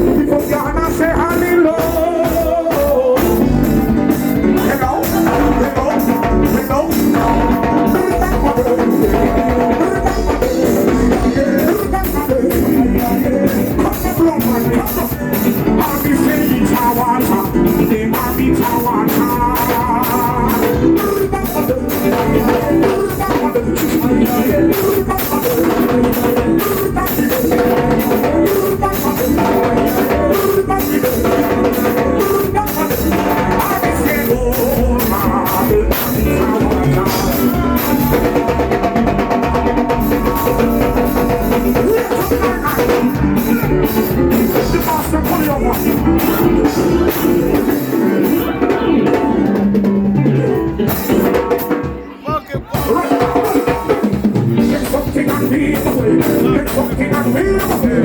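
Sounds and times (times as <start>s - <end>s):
drum beat: 0.0s - 58.0s
person singing: 0.0s - 58.0s.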